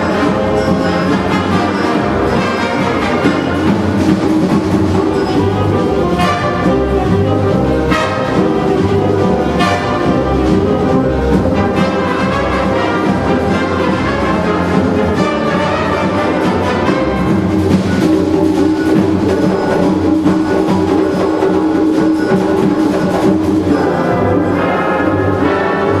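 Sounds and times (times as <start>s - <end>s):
brass: 0.0s - 26.0s
percussion strikes: 0.0s - 26.0s
wind orchestra playing: 0.0s - 26.0s.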